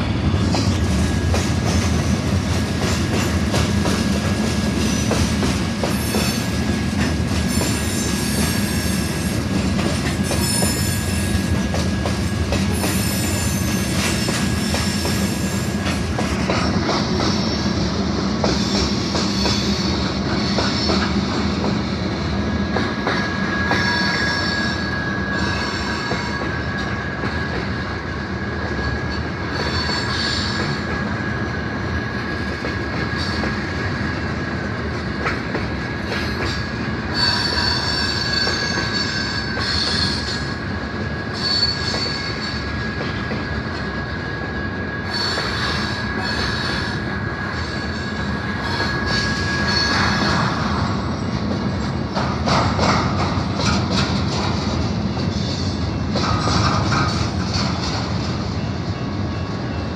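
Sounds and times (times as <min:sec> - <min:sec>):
wheels squealing on rails: 0:00.4 - 0:22.0, 0:22.6 - 0:59.9.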